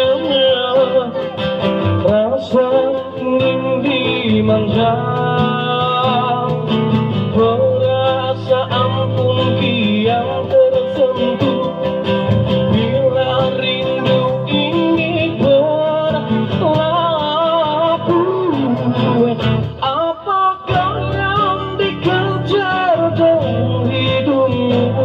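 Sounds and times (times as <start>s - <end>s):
acoustic guitar strumming: 0.0s - 25.0s
man singing a ballad: 0.0s - 25.0s.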